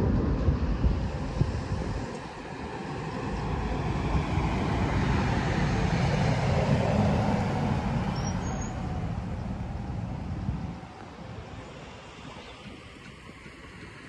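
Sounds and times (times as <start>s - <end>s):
bus driving past: 0.0s - 14.0s.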